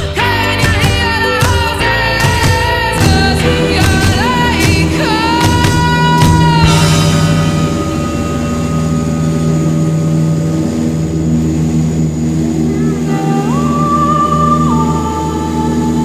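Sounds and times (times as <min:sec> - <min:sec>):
droning background music: 0:00.0 - 0:16.0.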